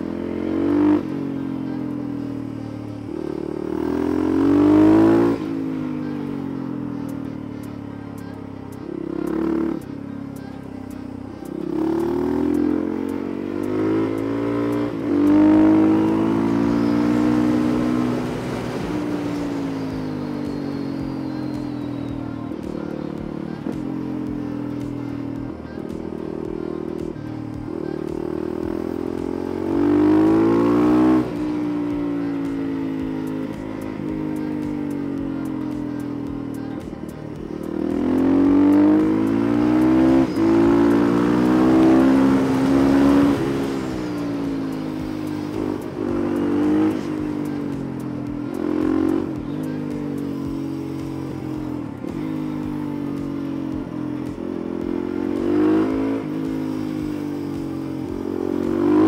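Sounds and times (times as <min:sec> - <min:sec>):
motorcycle engine accelerating: 0:00.0 - 0:59.0
motorcycle throttle blips: 0:00.0 - 0:59.0.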